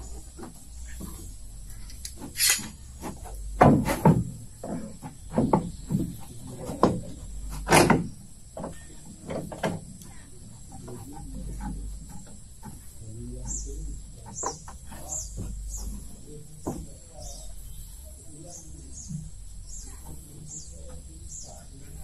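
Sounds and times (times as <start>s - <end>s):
wooden knocks and thuds: 0.0s - 17.8s, 18.6s - 21.8s.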